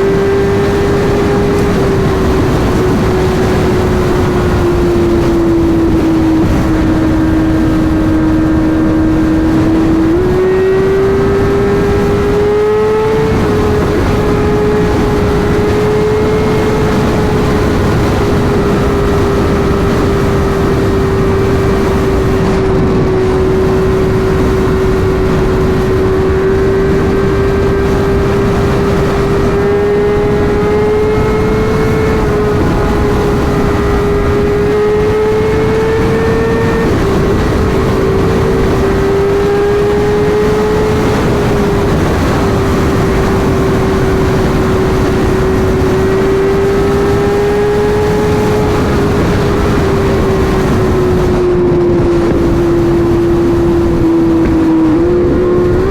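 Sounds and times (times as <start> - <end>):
heavy wind rush: 0.0 - 55.9
sport bike engine at high revs: 0.0 - 55.9.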